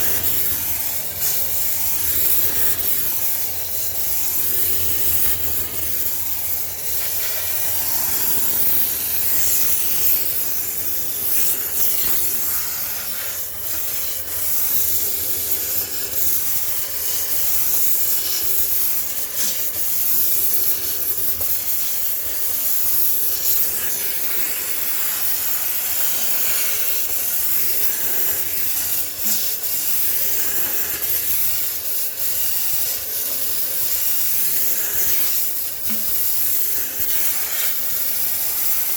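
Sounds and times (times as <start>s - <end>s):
steam cleaner hissing: 0.0s - 38.9s.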